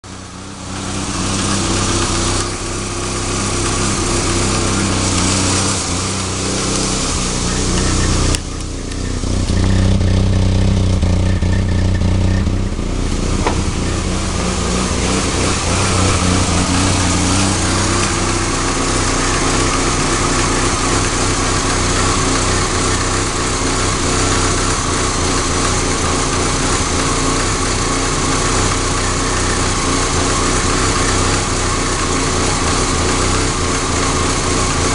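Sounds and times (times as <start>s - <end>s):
car engine idling roughly: 0.0s - 34.9s.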